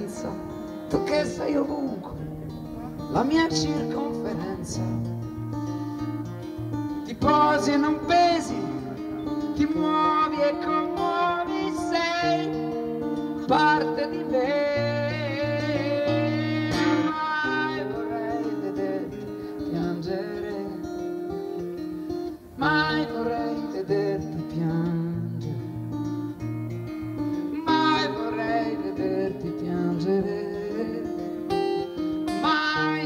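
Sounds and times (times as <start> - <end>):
acoustic guitar playing: 0.0 - 33.0
person singing: 0.0 - 33.0.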